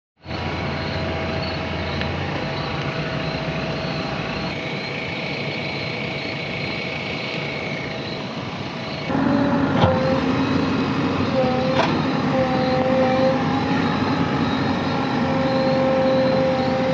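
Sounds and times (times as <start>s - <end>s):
heavy diesel machinery running: 0.2s - 16.9s.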